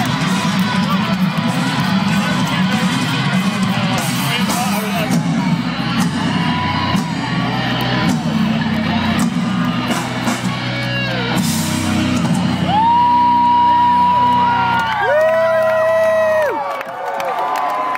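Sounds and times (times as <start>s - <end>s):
live rock band playing: 0.0s - 15.7s.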